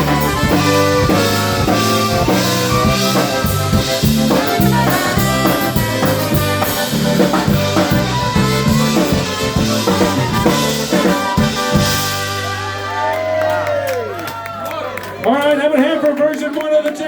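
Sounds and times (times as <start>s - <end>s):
polka band playing: 0.0s - 13.7s.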